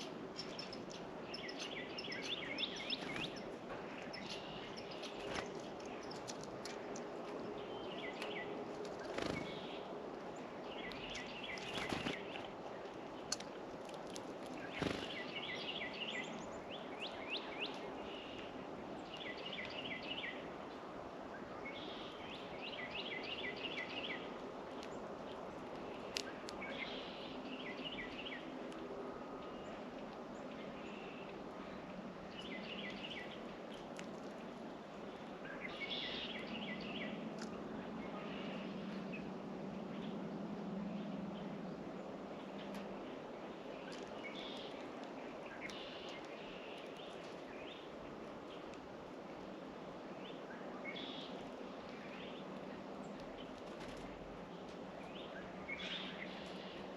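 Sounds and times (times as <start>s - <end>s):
songbirds chirping: 0.0s - 56.9s
steady outdoor hiss: 0.0s - 56.9s.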